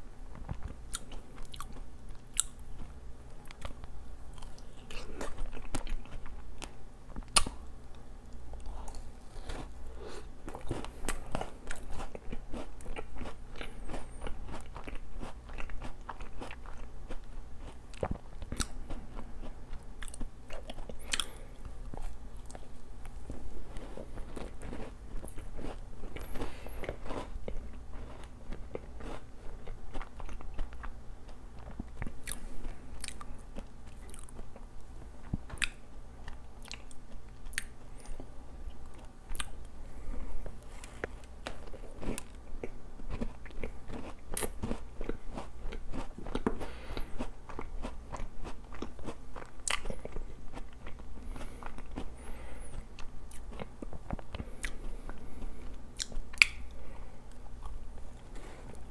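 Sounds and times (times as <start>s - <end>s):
person chewing: 0.4s - 58.9s.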